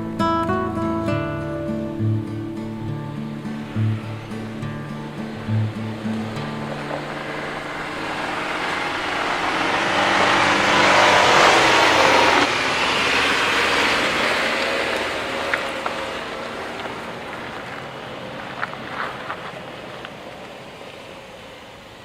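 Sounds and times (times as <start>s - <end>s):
pickup truck driving past: 0.0s - 22.0s.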